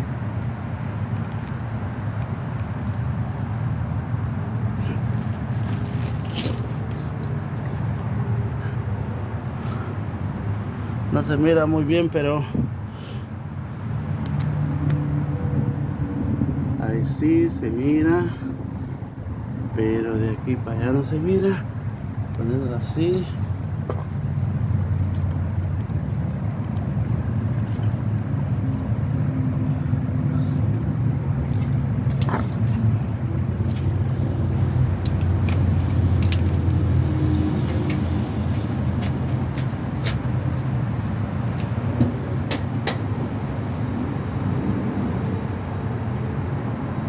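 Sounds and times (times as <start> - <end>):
low mechanical rumble: 0.0 - 47.0.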